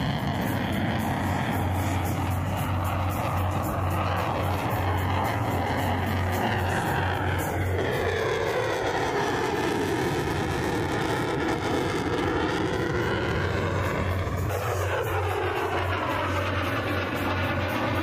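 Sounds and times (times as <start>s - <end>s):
fighter jet engine rush: 0.0s - 18.0s.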